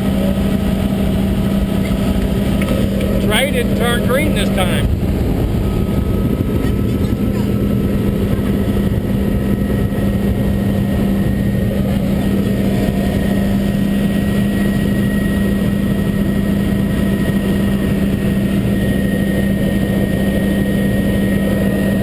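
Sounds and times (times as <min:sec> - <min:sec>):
helicopter engine and rotor drone: 0:00.0 - 0:22.0.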